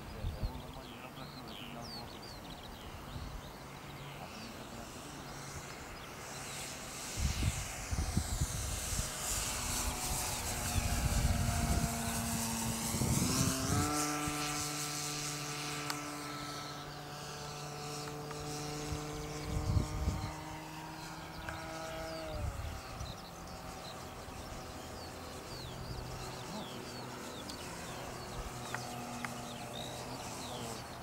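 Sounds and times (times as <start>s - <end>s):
model plane motor whine: 2.2s - 31.0s.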